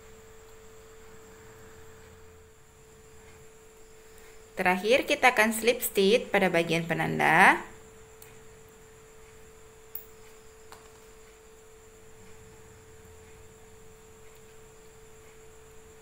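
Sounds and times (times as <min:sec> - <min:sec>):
faint steady electrical whine: 0:00.0 - 0:16.0.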